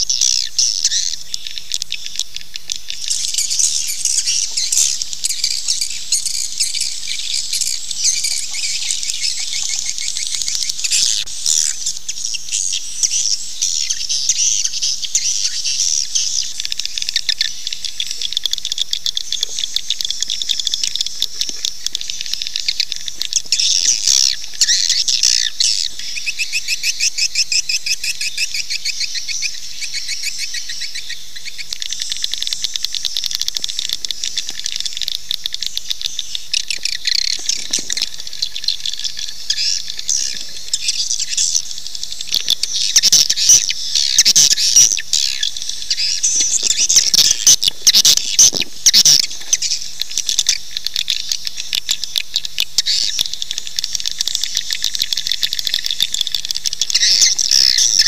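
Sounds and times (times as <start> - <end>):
swiftlet twittering chirps: 0.0 - 58.0.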